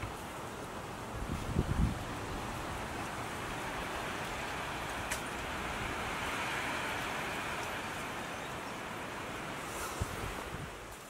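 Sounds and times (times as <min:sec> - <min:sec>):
even rushing forest noise: 0:00.0 - 0:11.0.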